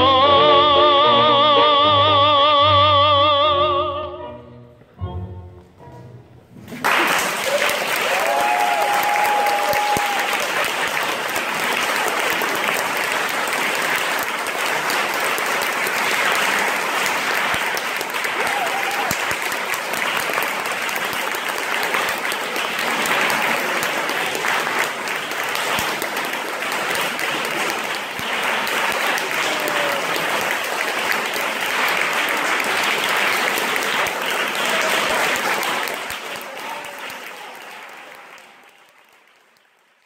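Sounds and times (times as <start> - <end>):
audience applauding: 6.7 - 40.0.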